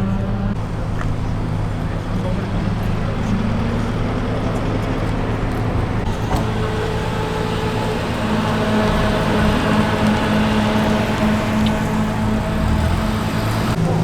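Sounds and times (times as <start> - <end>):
car engines running: 0.0 - 14.0
higher engine tone: 0.0 - 14.0.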